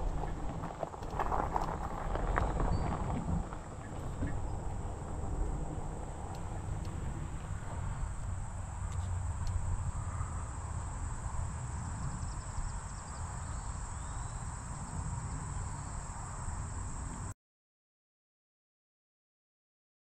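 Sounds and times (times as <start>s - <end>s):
low rumble: 0.0s - 17.3s
insects chirping: 0.1s - 17.3s.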